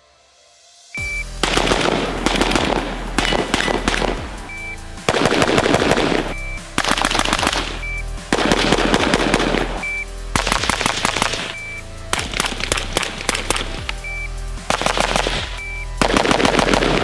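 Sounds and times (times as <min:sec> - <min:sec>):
background music: 0:00.0 - 0:17.0
rapid gunshots: 0:01.0 - 0:14.1, 0:14.7 - 0:17.0.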